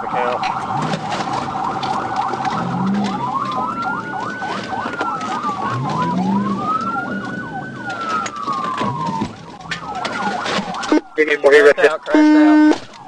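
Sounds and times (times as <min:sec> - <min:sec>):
police siren fast yelp: 0:00.0 - 0:13.0
police siren wailing: 0:00.0 - 0:13.0.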